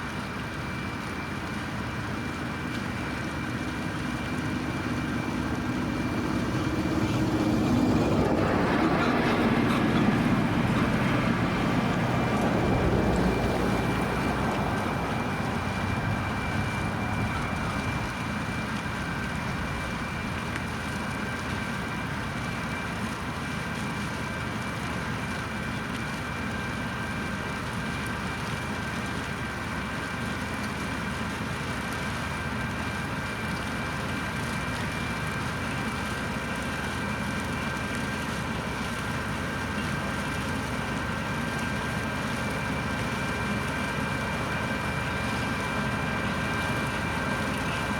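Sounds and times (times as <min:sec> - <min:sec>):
constant high whines: 0:00.0 - 0:30.2, 0:31.2 - 0:47.9
tractor and harvester machinery: 0:00.0 - 0:47.9.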